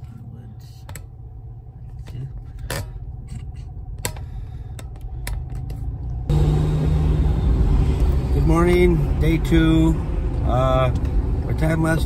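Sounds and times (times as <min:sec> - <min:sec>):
car cabin engine rumble: 0:00.0 - 0:12.0
driving noise with low hum: 0:00.0 - 0:12.0.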